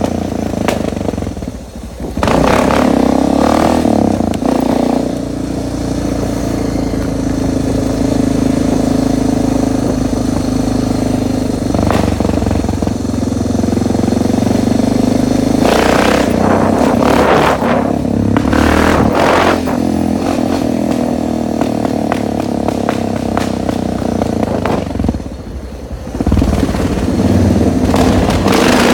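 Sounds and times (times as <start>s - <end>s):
dirt bike engine running: 0.0s - 28.9s.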